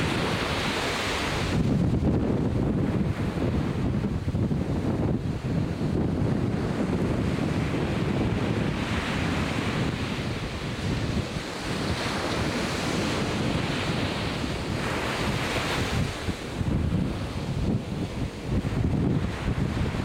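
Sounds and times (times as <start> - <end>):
ocean waves breaking: 0.0 - 20.0
wind rumbling on microphone: 0.0 - 20.0.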